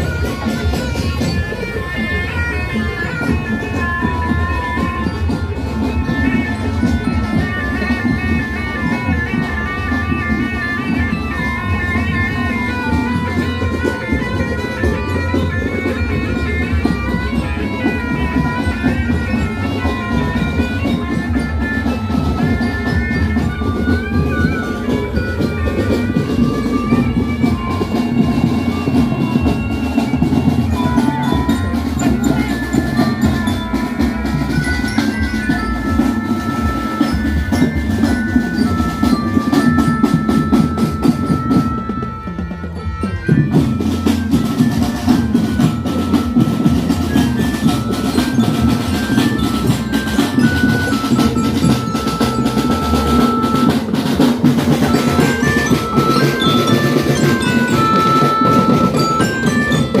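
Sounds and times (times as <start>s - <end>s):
drums with snare rolls: 0.0s - 60.0s
metal mallet instrument melody: 0.0s - 60.0s.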